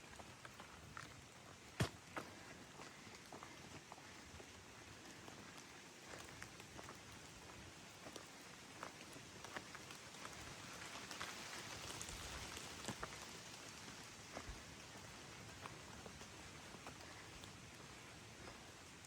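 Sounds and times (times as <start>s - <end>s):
light rain falling: 2.8s - 19.0s.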